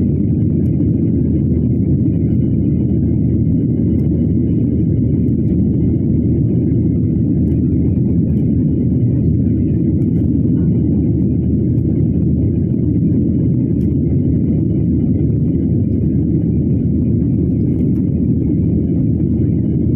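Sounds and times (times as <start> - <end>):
airliner cabin engine rumble: 0.0 - 19.9.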